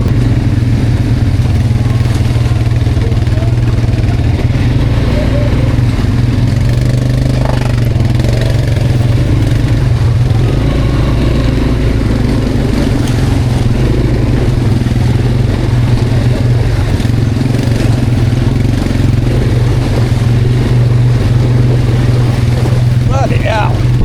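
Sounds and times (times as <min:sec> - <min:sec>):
quad bike engine drone: 0:00.0 - 0:24.0.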